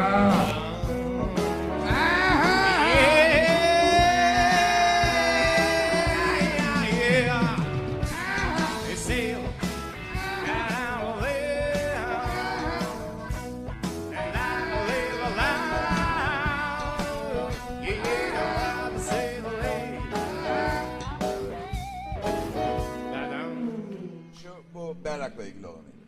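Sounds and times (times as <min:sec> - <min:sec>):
steady drum beat: 0:00.0 - 0:23.2
band playing rock music: 0:00.0 - 0:24.1.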